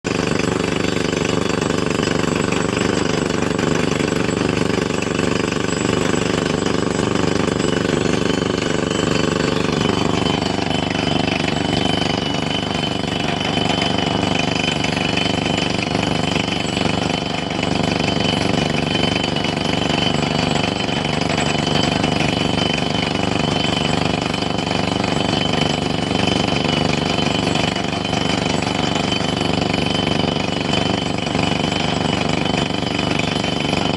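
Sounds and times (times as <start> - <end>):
excavator hammering rattle: 0.1 - 33.9.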